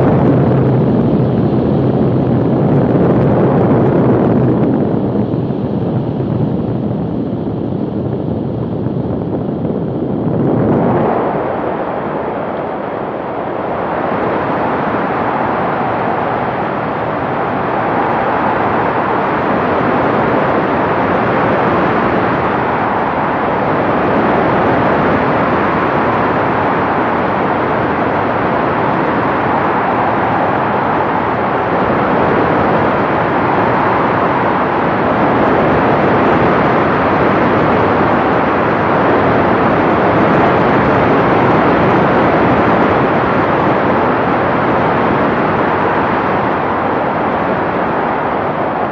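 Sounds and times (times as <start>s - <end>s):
aircraft engine noise: 0.0s - 48.9s
airflow rush: 0.0s - 48.9s.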